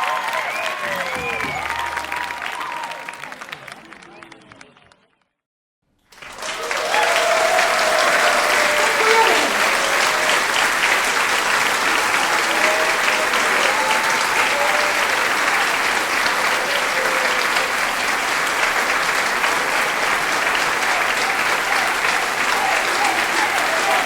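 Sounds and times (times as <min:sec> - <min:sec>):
audience applauding: 0:00.0 - 0:05.0, 0:06.1 - 0:24.0.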